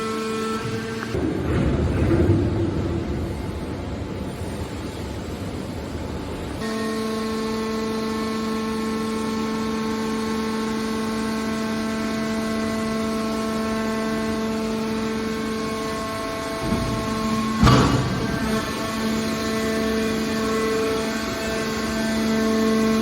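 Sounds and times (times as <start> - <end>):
hydraulic baler humming: 0.0 - 2.1, 6.5 - 23.0.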